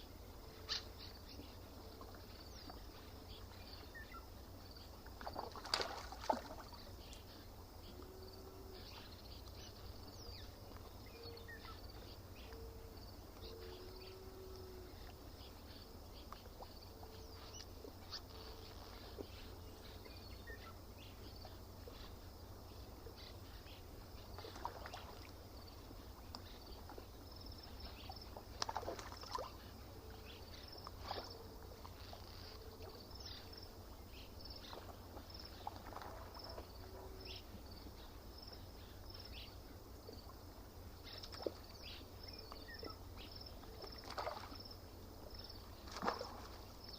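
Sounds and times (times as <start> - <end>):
insects chirring: 0.0 - 46.9
water lapping and splashing: 0.5 - 12.2, 13.4 - 37.7, 39.1 - 46.9.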